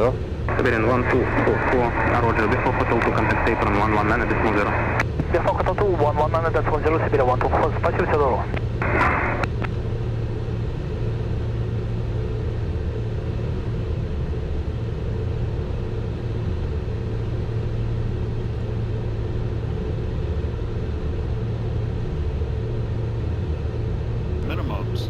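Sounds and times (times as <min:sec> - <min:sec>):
jet cockpit hum: 0:00.0 - 0:25.0.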